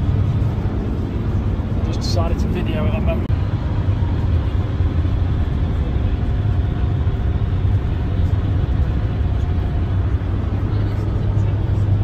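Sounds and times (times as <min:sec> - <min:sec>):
vehicle cabin road and engine drone: 0:00.0 - 0:12.0.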